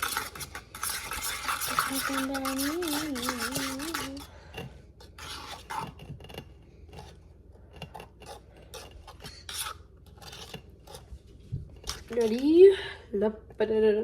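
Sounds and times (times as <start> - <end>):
utensil scraping slime in bowl: 0.0 - 12.6.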